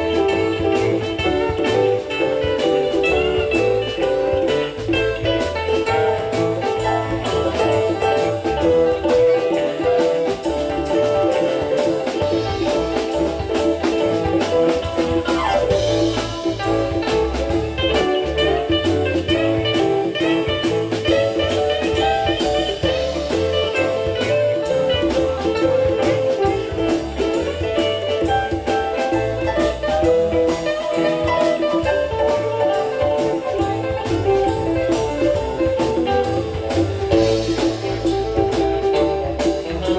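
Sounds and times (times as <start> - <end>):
guitar playing: 0.0 - 39.9
instrumental band music: 0.0 - 39.9.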